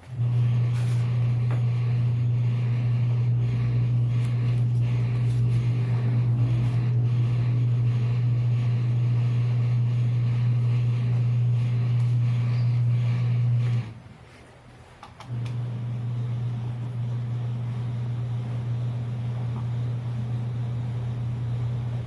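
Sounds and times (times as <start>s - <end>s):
appliance motor humming: 0.0s - 14.1s, 15.0s - 22.0s.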